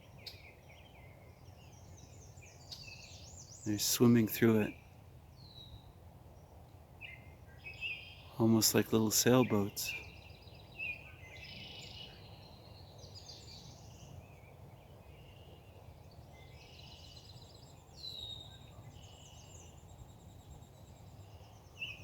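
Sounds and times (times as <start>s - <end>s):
low outdoor hum: 0.0s - 22.0s
small birds chirping and trilling: 0.0s - 22.0s.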